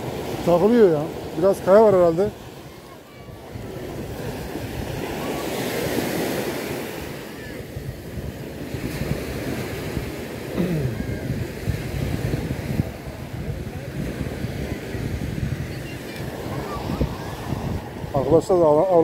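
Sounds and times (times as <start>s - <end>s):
sea waves washing onto beach: 0.0s - 19.0s
wind buffeting microphone: 0.0s - 19.0s.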